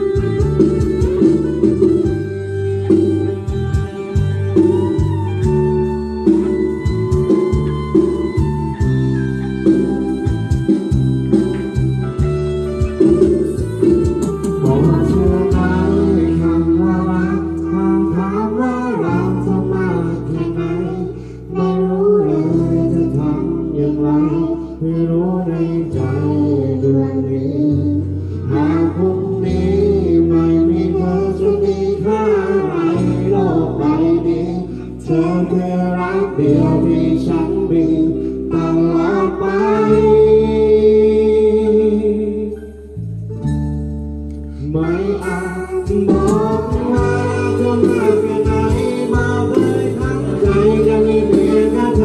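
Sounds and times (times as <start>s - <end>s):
girl singing into microphone: 0.0s - 9.1s, 12.9s - 42.8s, 44.5s - 52.0s
karaoke backing track: 0.0s - 52.0s.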